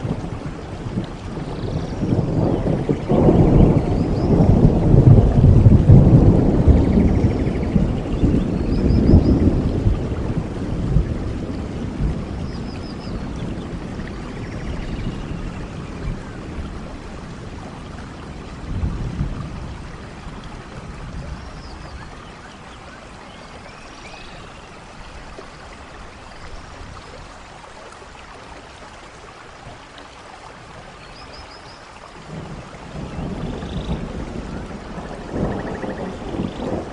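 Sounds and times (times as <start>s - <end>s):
low thunder rumble: 0.0s - 27.3s, 32.2s - 36.9s
steady rainfall: 0.0s - 36.9s.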